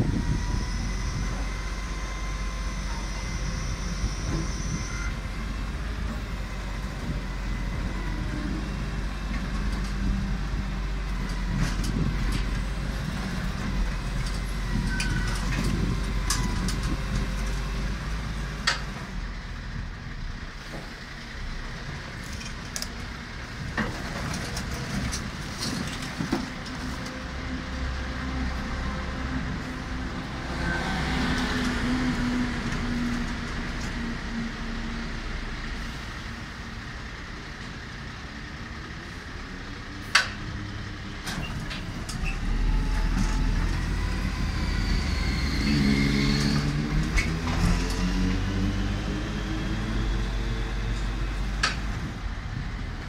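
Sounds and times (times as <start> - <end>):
diesel engine running: 0.0 - 53.0
hydraulic loader working: 0.0 - 53.0.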